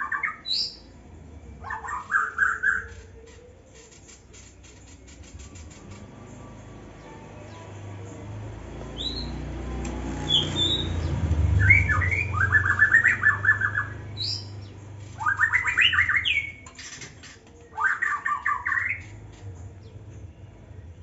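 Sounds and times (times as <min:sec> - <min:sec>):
shama singing whistles and chatter: 0:00.0 - 0:06.7, 0:09.0 - 0:09.5, 0:10.2 - 0:20.9.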